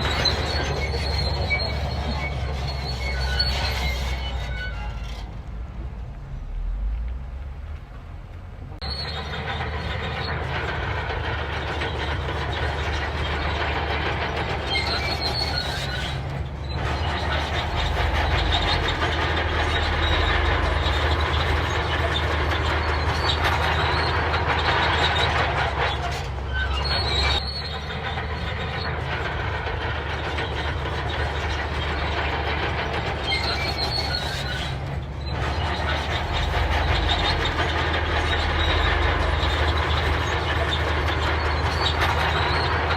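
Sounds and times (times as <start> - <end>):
steel tracks clattering and squealing: 0.0 - 6.6, 7.5 - 42.9
diesel engine running: 0.0 - 42.9.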